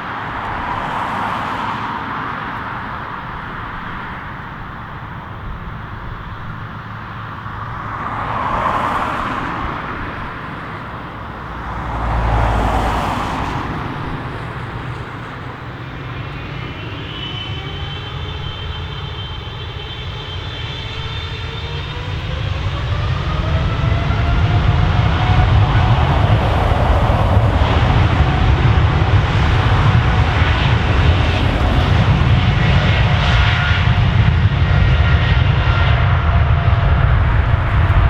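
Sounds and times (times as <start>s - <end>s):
jet engine whine: 0.0s - 38.0s
jet engines rumbling: 0.0s - 38.0s.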